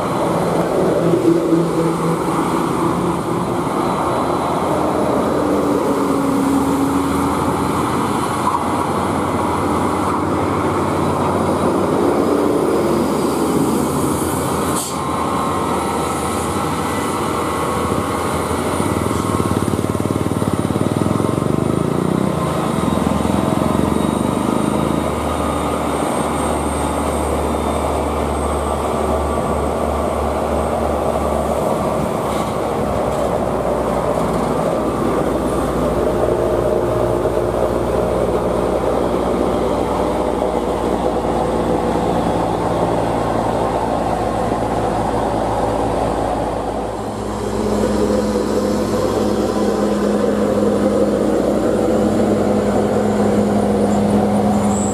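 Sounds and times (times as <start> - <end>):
truck diesel engines labouring: 0.0 - 54.9.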